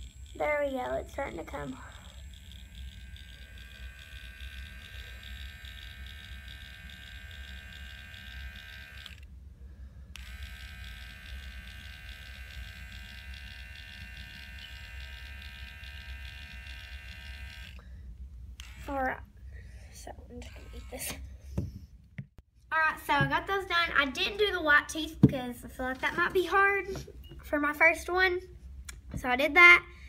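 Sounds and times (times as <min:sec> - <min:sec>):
electrical hum and buzz: 0:00.0 - 0:30.0.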